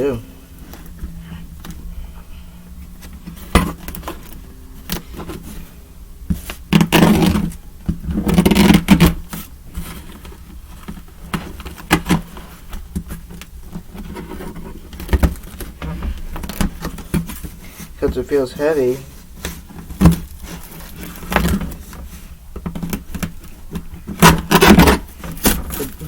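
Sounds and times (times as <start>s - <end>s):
cardboard scraping: 0.0s - 26.0s.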